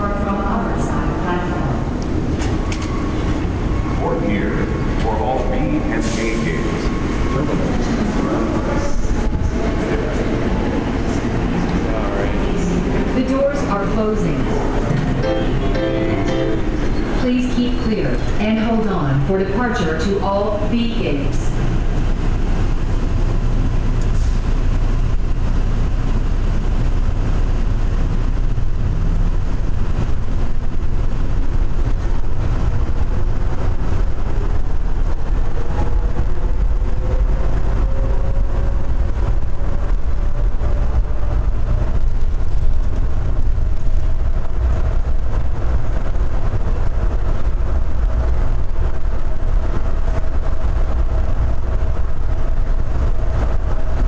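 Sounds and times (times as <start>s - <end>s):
train rumbling in tunnel: 0.0s - 54.0s.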